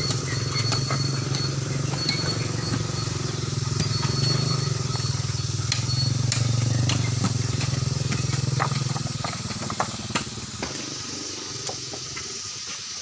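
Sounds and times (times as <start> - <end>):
engine humming: 0.0 - 12.6.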